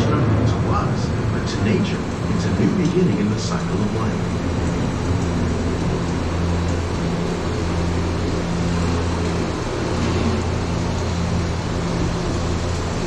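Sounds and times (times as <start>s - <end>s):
low droning rumble: 0.0s - 13.0s
wind and rain rushing: 0.0s - 13.0s.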